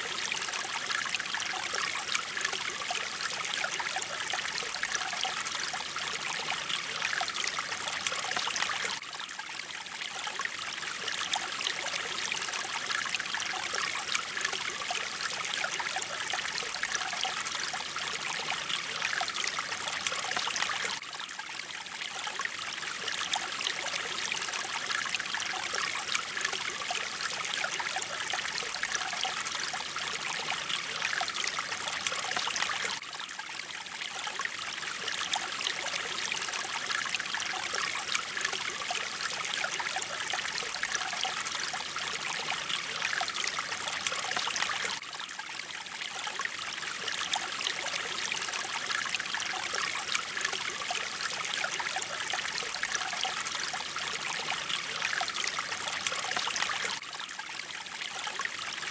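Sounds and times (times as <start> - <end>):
stream running over rocks: 0.0 - 58.9.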